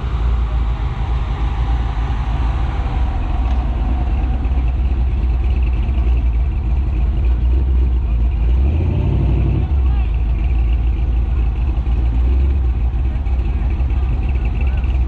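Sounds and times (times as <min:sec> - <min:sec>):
car engine rolling past: 0:00.0 - 0:15.0.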